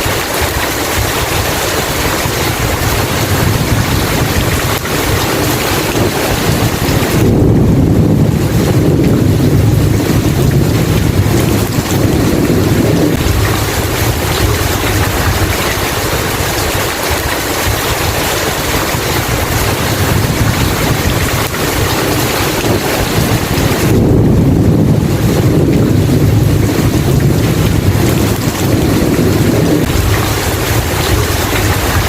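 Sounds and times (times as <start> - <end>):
heavy rain hissing: 0.0 - 32.0
low rolling rumble: 0.0 - 32.0.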